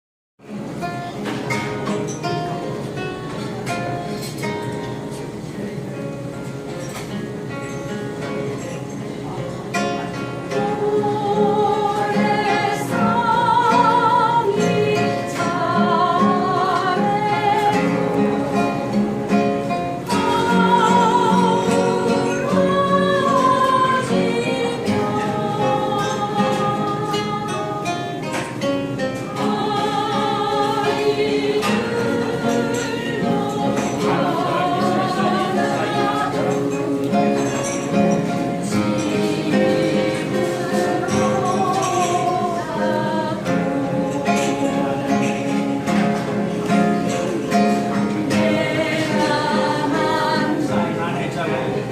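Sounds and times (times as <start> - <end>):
guitar accompaniment: 0.4 - 51.9
person singing with vibrato: 10.2 - 51.9.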